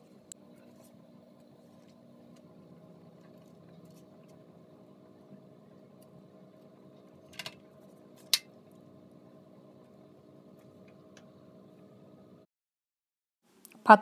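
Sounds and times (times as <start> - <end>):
low hum: 0.0 - 12.5.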